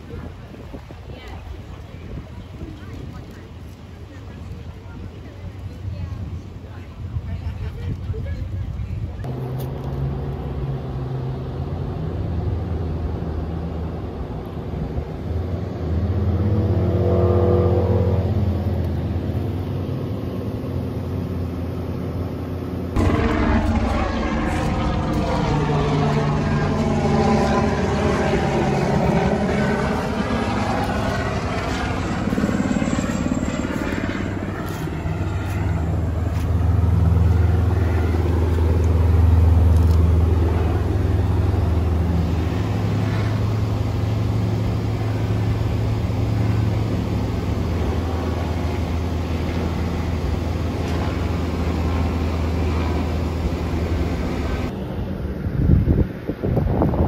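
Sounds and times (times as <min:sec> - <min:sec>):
engine droning: 0:00.0 - 0:56.8.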